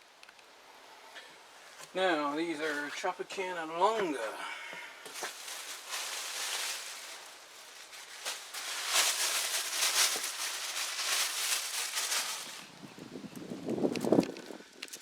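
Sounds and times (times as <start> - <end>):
onions rustling and crackling: 1.6 - 4.3, 5.0 - 15.0.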